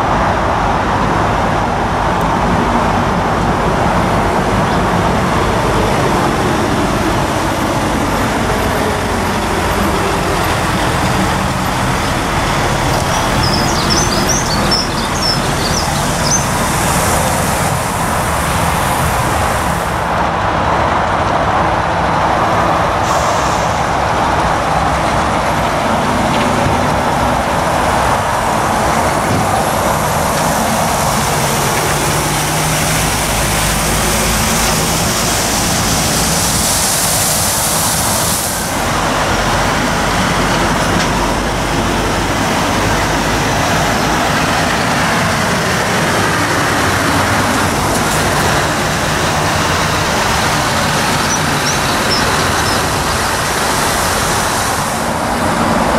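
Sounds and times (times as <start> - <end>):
lorry diesel engines: 0.0 - 55.9
loud air hiss: 3.9 - 20.2, 22.9 - 55.9.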